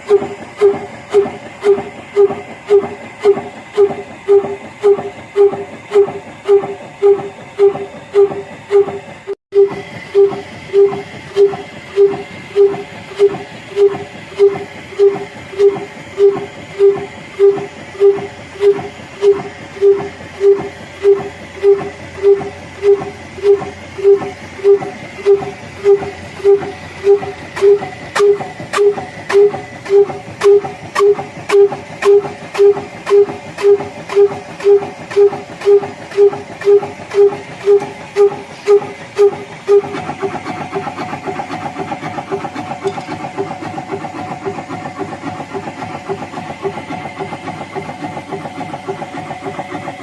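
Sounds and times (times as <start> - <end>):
diesel engine running slowly: 0.0 - 50.0.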